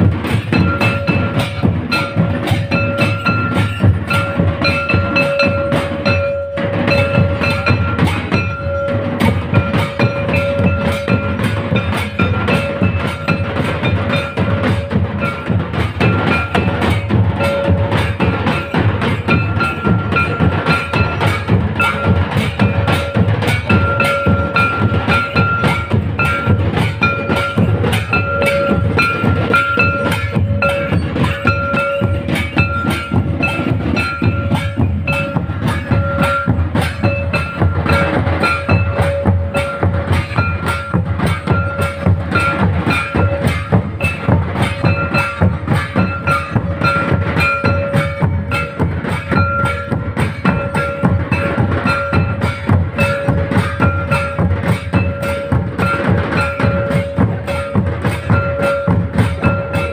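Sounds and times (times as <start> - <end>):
drum ensemble playing fast beat: 0.0 - 59.9
held high tone: 0.3 - 59.9.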